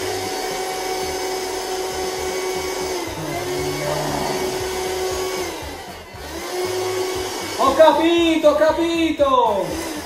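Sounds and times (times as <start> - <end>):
vacuum cleaner running: 0.0 - 8.5, 9.5 - 10.0.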